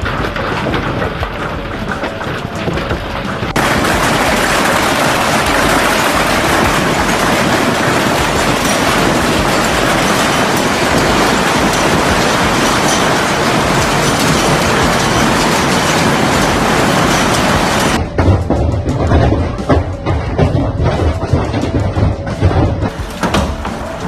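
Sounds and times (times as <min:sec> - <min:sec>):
hail clattering: 0:00.0 - 0:24.0.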